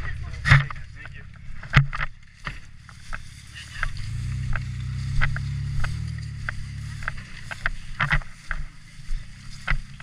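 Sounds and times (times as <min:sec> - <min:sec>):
sharp clicks and crunches: 0:00.0 - 0:10.0
truck engine rumbling: 0:00.0 - 0:10.0.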